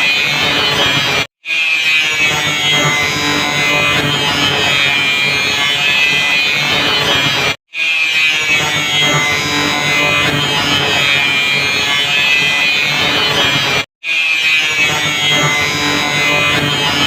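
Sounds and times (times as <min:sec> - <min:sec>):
angle grinder cutting metal: 0:00.0 - 0:17.0.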